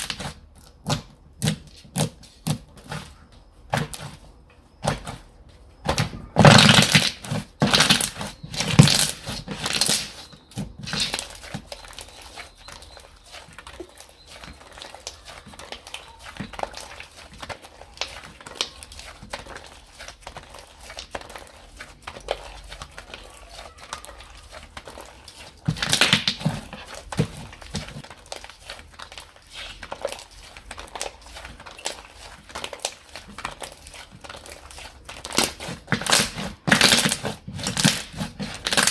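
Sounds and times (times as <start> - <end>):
hands squishing slime: 0.0 - 38.9
sticky slime pops and crackles: 5.9 - 38.9.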